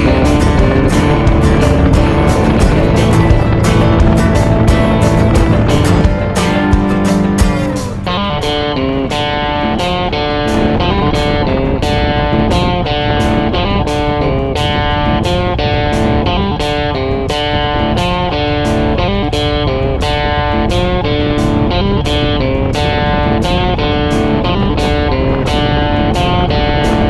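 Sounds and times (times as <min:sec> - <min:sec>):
guitar music with drum beat: 0:00.0 - 0:27.0.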